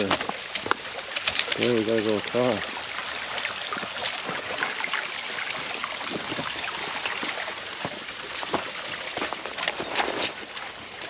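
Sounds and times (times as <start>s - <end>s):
creek water over rocks: 0.0s - 11.0s
water splashes and clicks: 0.0s - 11.0s.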